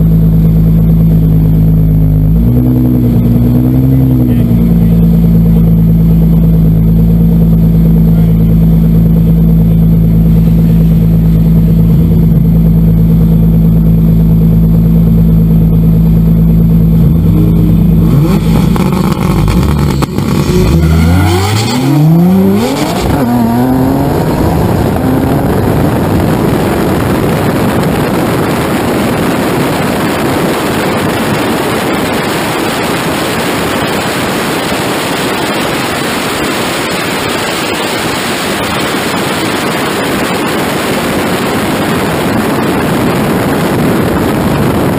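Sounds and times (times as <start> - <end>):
car engine accelerating: 0.0 - 44.9
wind noise over car: 0.0 - 44.9.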